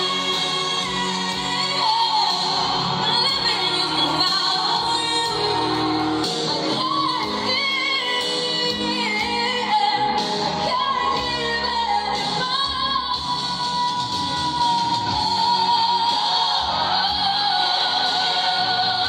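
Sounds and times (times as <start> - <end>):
woman singing over stereo speakers: 0.0 - 19.0.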